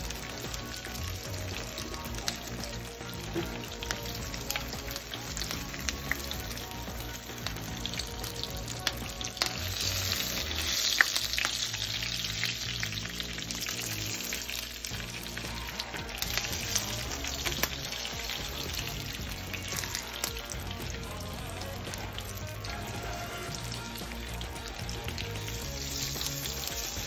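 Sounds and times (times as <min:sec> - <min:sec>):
crackling sizzle of frying: 0:00.0 - 0:27.0.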